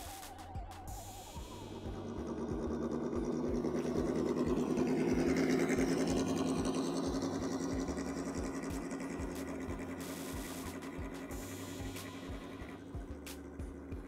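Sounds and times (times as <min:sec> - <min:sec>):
toy car electric motor whining: 0:00.9 - 0:14.0.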